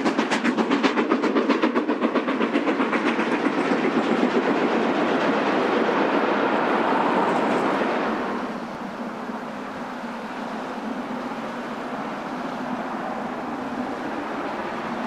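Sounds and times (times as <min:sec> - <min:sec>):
steam locomotive beats: 0:00.0 - 0:15.0
train coaches rumbling: 0:00.0 - 0:15.0.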